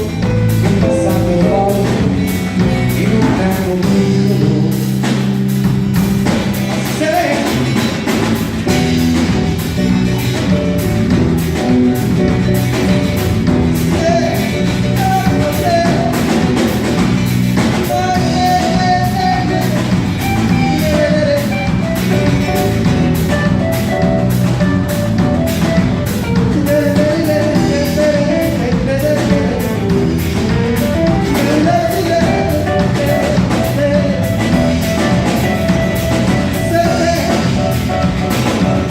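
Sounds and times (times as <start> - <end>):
bass: 0.0 - 38.9
drum kit steady beat: 0.0 - 38.9
guitar: 0.0 - 38.9.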